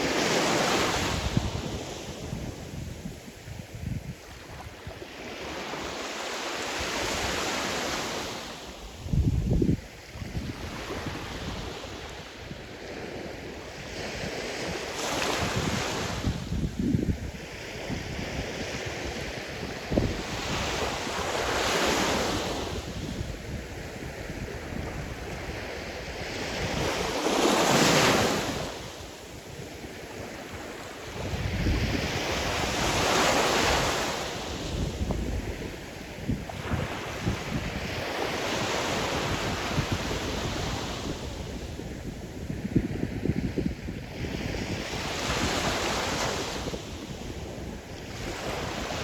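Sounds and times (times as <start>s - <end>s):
wind buffeting microphone: 0.0s - 5.7s, 8.9s - 49.0s.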